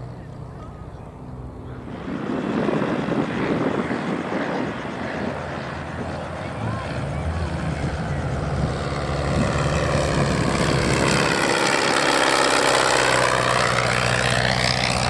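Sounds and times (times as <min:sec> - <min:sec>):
light aircraft engine and propeller: 0:00.0 - 0:15.0.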